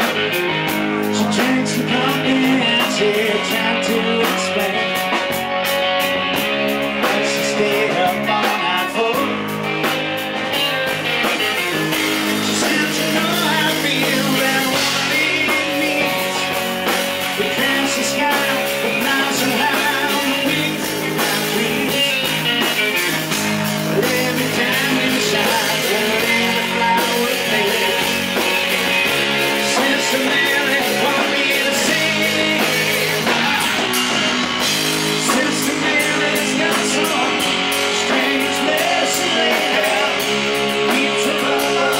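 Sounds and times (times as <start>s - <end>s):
bass guitar: 0.0s - 41.9s
drum kit: 0.0s - 41.9s
electric guitars: 0.0s - 41.9s.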